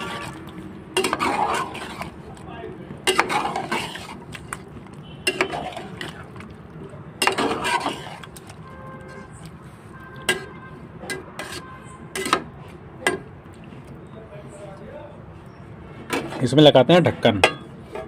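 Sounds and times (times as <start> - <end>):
spatula stirring thick curry: 0.0 - 14.0, 15.4 - 16.5.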